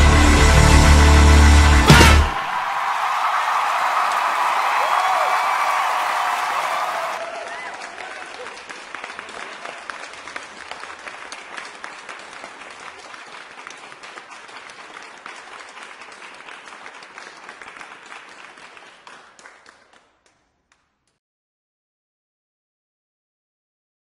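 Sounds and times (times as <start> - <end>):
crowd applause: 0.0 - 20.0.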